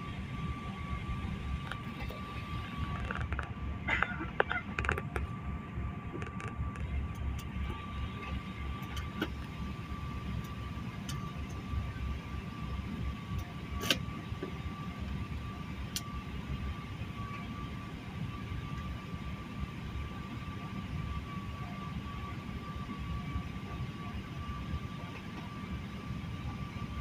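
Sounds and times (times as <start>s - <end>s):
airliner cabin low rumble: 0.0s - 27.0s
thin steady whine: 0.0s - 27.0s.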